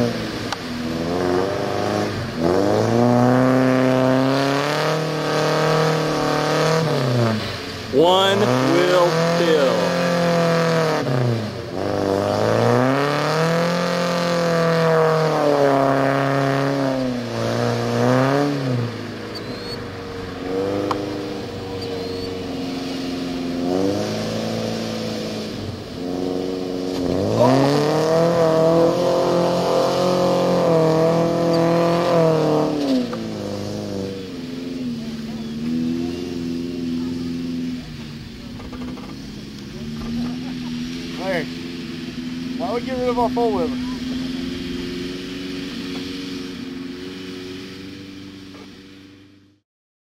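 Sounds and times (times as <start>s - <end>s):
mud and water spraying: 0.0s - 49.6s
truck engine revving hard: 0.0s - 49.6s.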